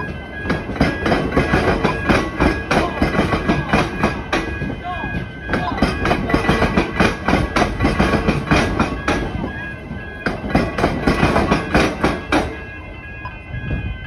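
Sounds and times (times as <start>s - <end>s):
train wheels clattering: 0.0s - 12.8s
level crossing bells ringing: 0.0s - 14.0s.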